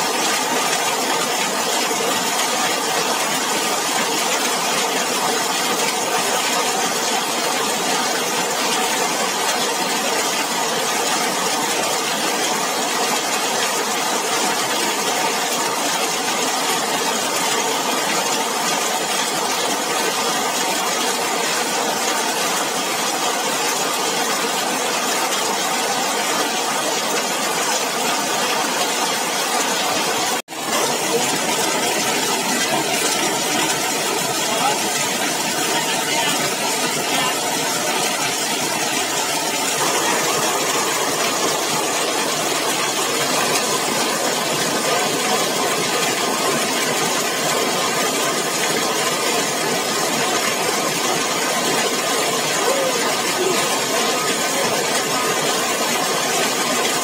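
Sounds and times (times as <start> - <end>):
heavy rain on a metal roof: 0.0 - 57.0.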